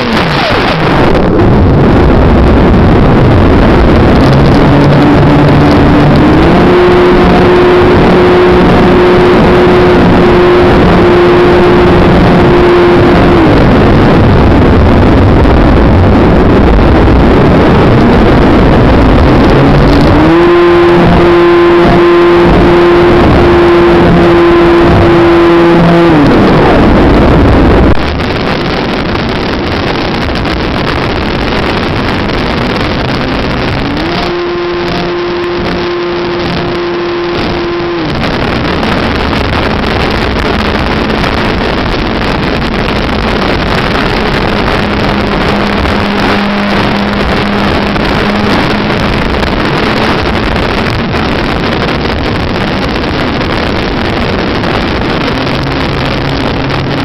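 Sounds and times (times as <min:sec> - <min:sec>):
wind rush over microphone: 0:00.0 - 0:57.0.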